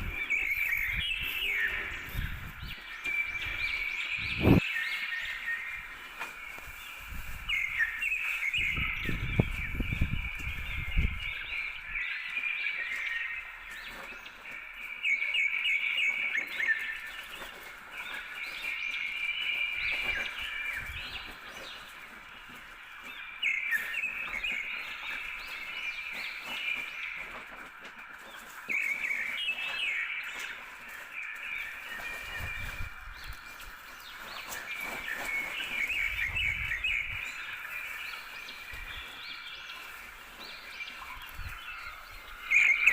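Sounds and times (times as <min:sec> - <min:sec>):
birds chirping and singing: 0:00.0 - 0:42.9.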